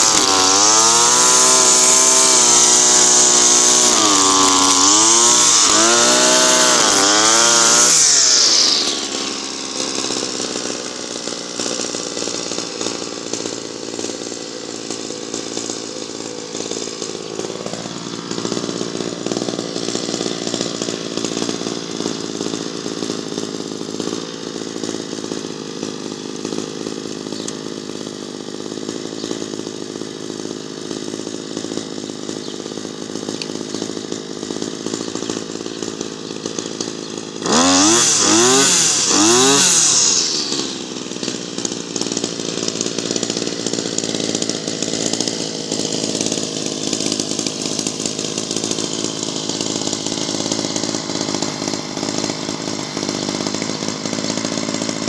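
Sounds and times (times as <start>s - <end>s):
brushcutter engine revving: 0.0s - 55.0s
brushcutter engine running: 0.0s - 55.0s.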